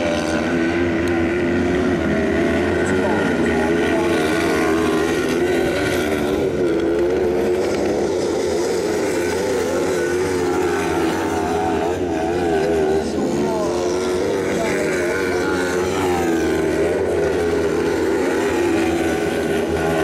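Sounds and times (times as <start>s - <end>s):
buggy engines revving: 0.0s - 20.0s.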